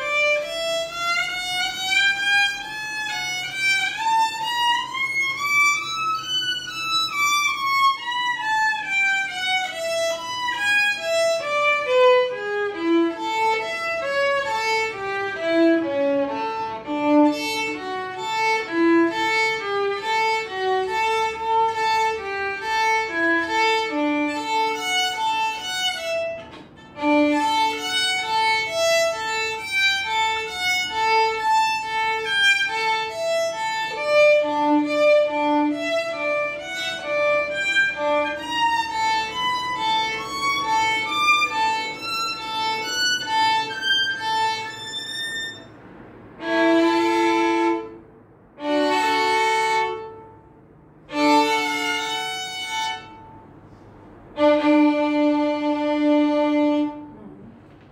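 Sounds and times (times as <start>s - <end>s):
solo violin: 0.0s - 57.9s.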